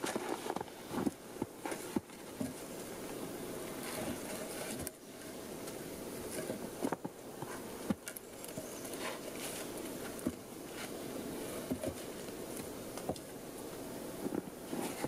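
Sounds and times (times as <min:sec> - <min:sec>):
steady rustle: 0:00.0 - 0:15.0
wooden poles knocking and scraping: 0:00.0 - 0:15.0.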